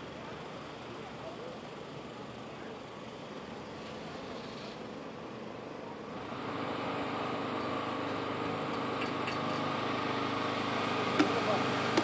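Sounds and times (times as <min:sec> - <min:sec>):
engine hum: 0:00.0 - 0:12.0
traffic noise: 0:00.0 - 0:12.0.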